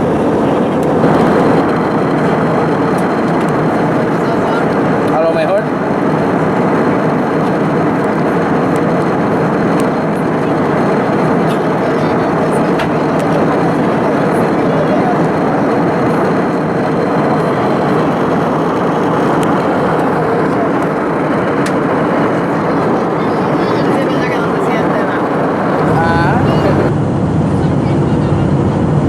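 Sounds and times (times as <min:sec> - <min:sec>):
jet engines and airflow rushing: 0:00.0 - 0:29.0.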